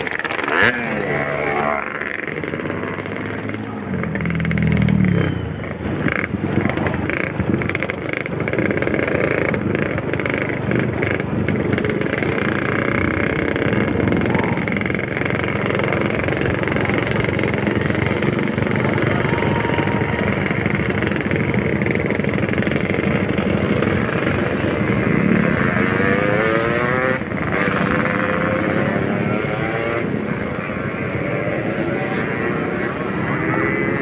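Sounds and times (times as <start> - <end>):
motorcycle engine running: 0.0 - 34.0
motorcycles ahead: 0.0 - 34.0
riding noise: 0.0 - 34.0.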